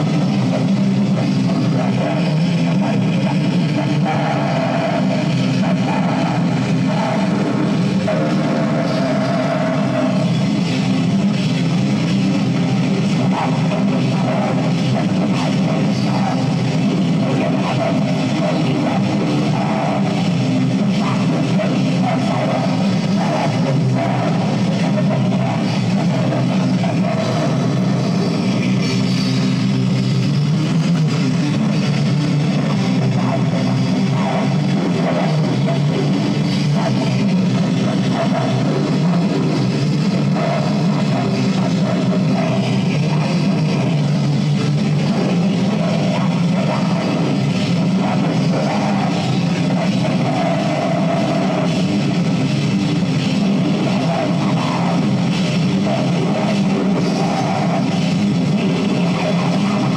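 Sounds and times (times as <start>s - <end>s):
black metal band playing: 0.0s - 59.9s.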